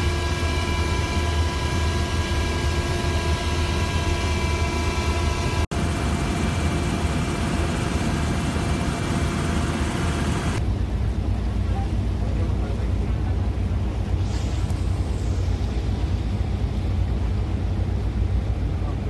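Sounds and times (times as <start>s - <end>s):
helicopter turbine whine: 0.0s - 19.0s
low rotor rumble: 0.0s - 19.0s.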